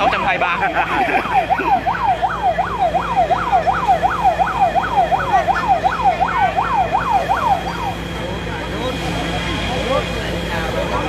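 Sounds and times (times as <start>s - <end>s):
fire truck siren yelping: 0.0s - 11.0s.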